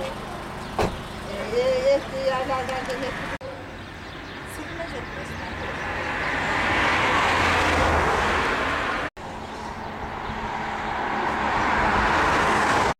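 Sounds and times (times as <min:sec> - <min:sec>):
cars passing: 0:00.0 - 0:12.9.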